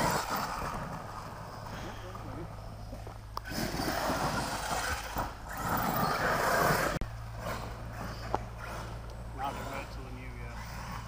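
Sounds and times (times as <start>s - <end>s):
rc car motor and tyres rushing: 0.0s - 11.0s.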